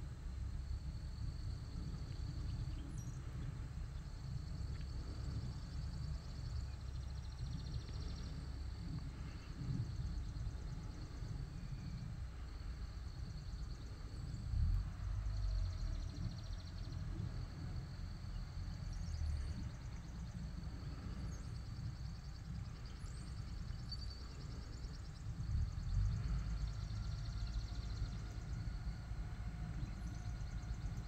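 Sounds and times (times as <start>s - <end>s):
steady low rumble: 0.0s - 31.0s
faint chirps: 1.7s - 31.0s.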